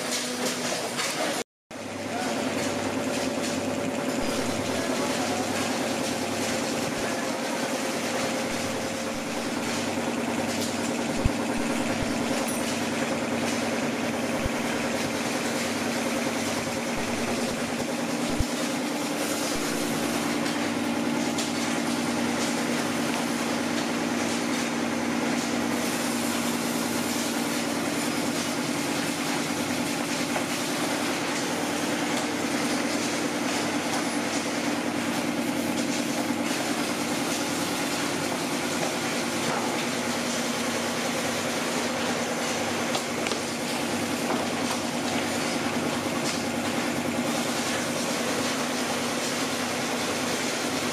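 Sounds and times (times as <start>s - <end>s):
factory machinery humming: 0.0s - 50.9s.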